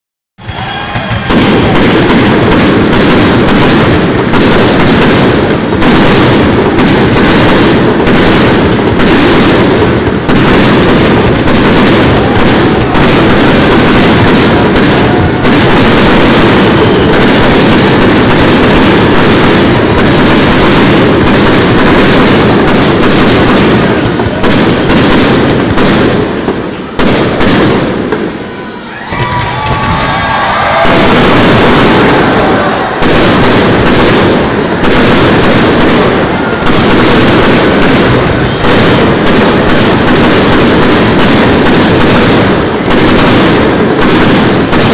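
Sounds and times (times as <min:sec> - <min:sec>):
fireworks bangs and crackling: 0:00.4 - 0:44.9.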